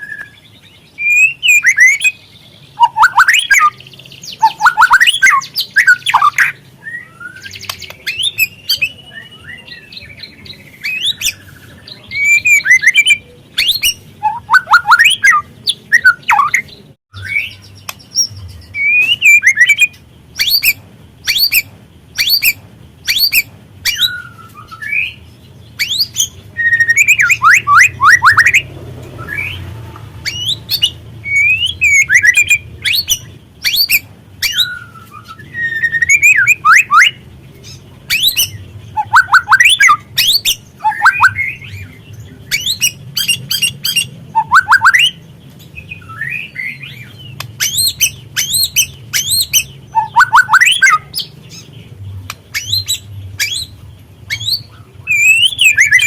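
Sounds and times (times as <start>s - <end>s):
bird chattering and chirping: 0.0s - 56.0s.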